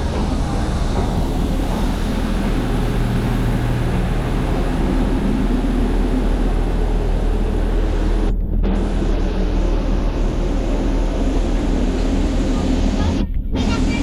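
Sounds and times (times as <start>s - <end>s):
airliner cabin engine noise: 0.0s - 14.0s
constant low hum: 0.0s - 14.0s.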